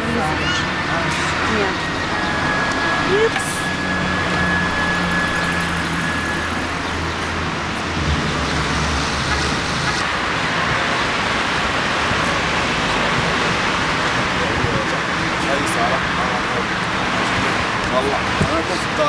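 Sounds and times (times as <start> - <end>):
low engine hum: 0.0 - 18.6
road noise from passing cars: 0.0 - 19.0.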